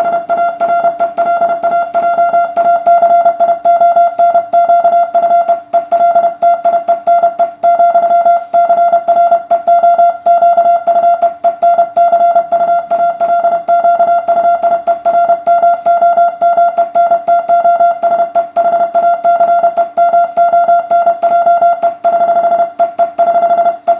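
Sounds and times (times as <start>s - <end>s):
morse code beeps: 0.0s - 23.9s.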